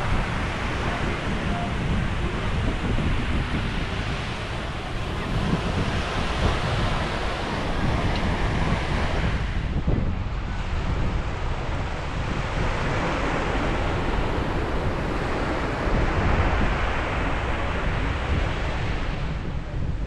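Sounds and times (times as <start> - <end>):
ocean surf washing onto beach: 0.0 - 20.0
wind buffeting microphone: 0.0 - 20.0.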